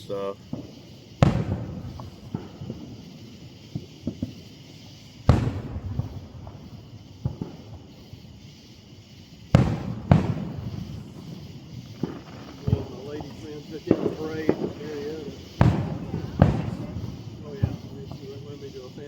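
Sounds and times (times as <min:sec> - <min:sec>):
fireworks booming: 0:00.0 - 0:19.0
small firework pops: 0:00.0 - 0:19.0.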